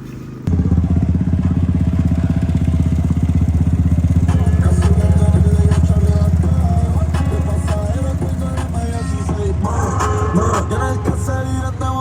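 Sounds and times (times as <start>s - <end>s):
engine running with low exhaust: 0.0s - 12.0s.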